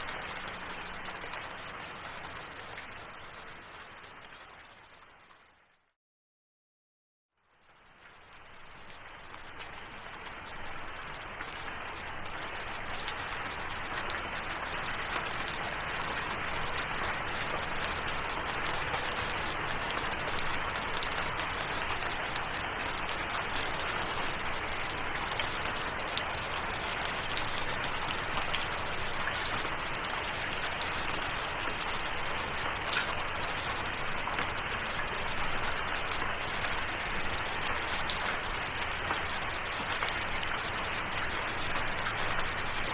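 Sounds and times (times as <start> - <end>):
steady rain falling: 0.0 - 5.6, 7.4 - 42.9.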